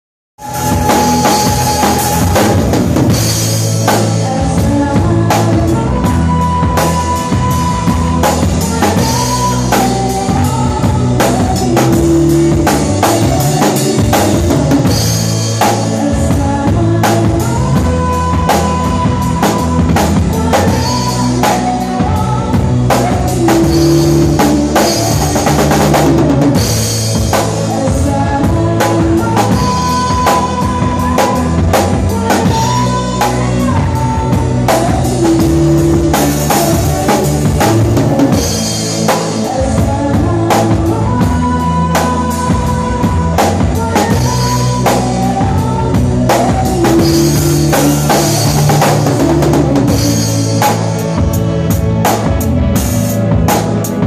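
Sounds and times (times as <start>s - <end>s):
loud music with drums and bass: 0.4s - 54.0s.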